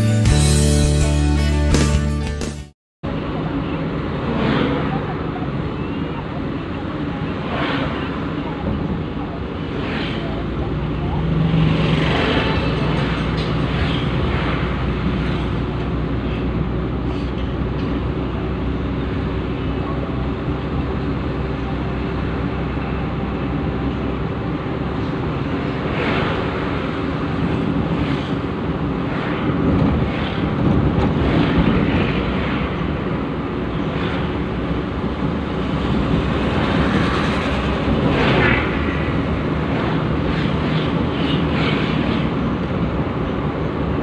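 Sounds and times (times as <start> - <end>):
car road and engine noise: 3.0 - 44.0
vehicles passing: 3.0 - 44.0
wind: 3.0 - 44.0.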